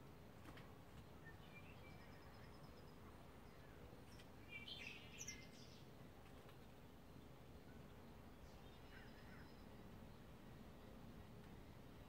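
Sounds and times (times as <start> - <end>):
low background noise: 0.0 - 12.0
small songbirds chirping: 0.0 - 12.0.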